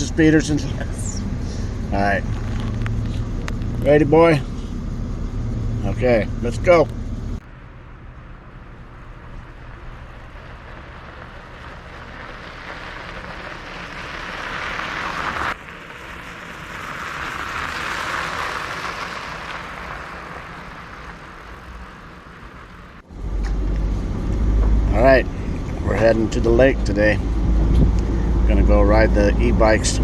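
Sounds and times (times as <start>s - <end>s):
road and tyre noise: 0.0s - 30.0s.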